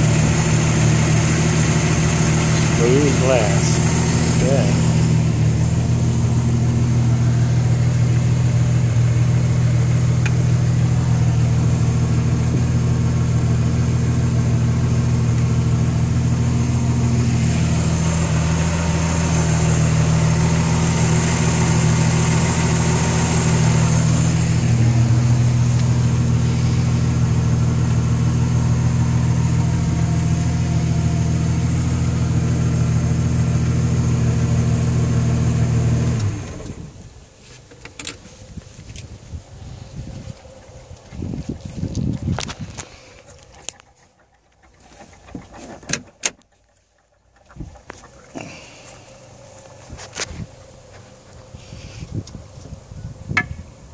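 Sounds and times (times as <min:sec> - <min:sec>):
boat engine idling: 0:00.0 - 0:33.3, 0:39.6 - 0:53.9.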